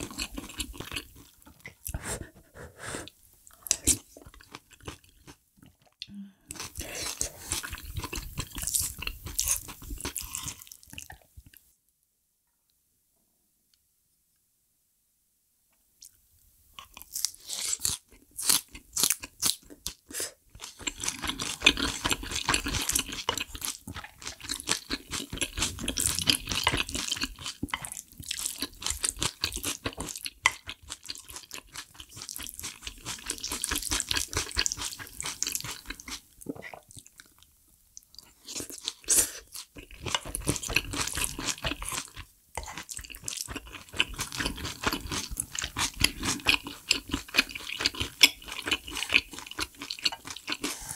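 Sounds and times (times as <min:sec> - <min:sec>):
person chewing and crunching: 0:00.0 - 0:02.0, 0:03.5 - 0:11.6, 0:16.8 - 0:50.9.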